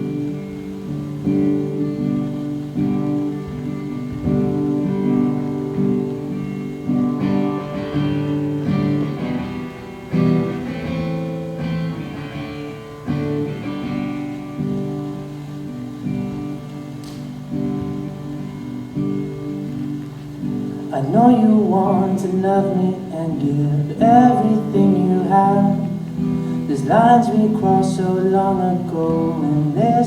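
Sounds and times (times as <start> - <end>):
acoustic guitar strumming and picking: 0.0 - 30.0.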